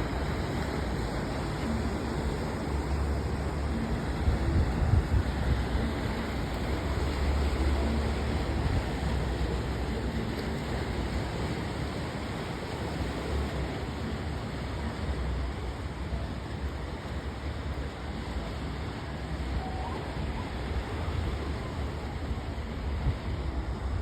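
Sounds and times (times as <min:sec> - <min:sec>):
river water washing on shore: 0:00.0 - 0:24.0
wind noise on microphone: 0:00.0 - 0:24.0.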